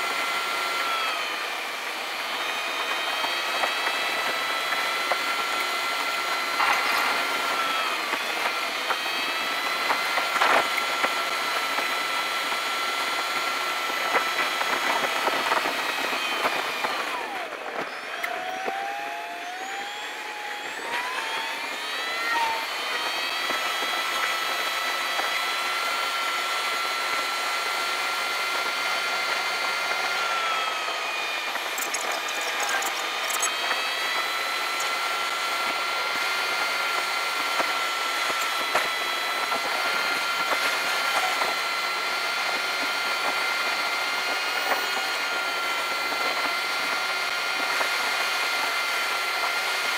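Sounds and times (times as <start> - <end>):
sped-up car engine whine: 0.0 - 49.9.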